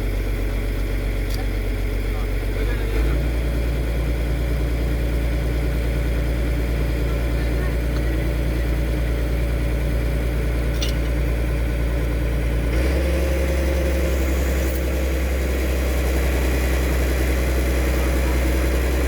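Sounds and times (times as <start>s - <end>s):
excavator diesel engine idling: 0.0s - 19.0s.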